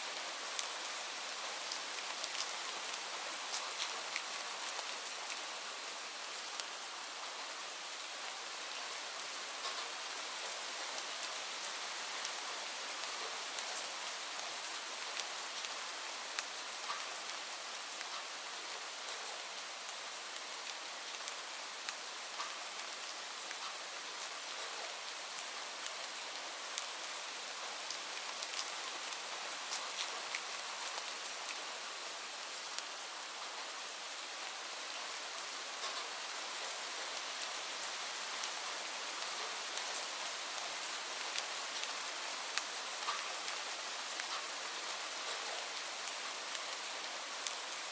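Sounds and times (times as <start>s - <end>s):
rain falling on leaves: 0.0s - 47.9s.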